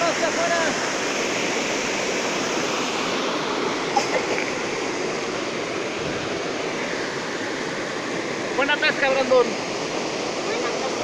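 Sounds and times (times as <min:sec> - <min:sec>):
stream rushing over cascade: 0:00.0 - 0:11.0.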